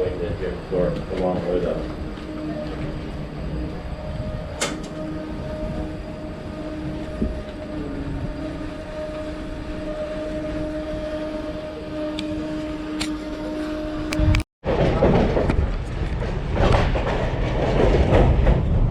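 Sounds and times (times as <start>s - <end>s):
train interior rumble: 0.0s - 18.9s.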